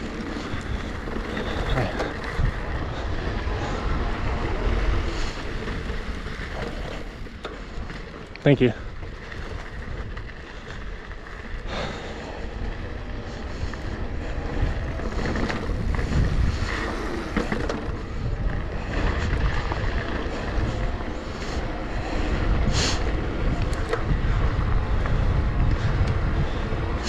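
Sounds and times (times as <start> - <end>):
mountain bike rumbling over trail: 0.0 - 27.0
wind buffeting microphone: 0.0 - 27.0.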